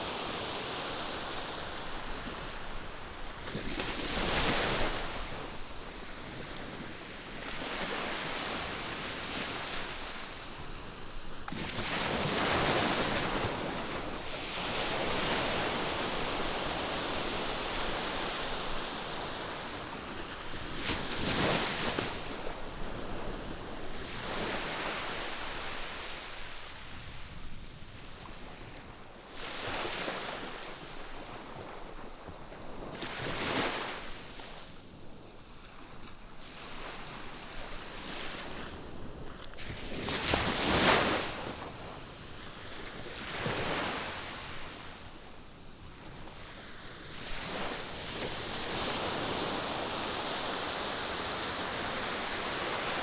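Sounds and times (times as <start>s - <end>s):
ocean waves washing ashore: 0.0s - 53.0s.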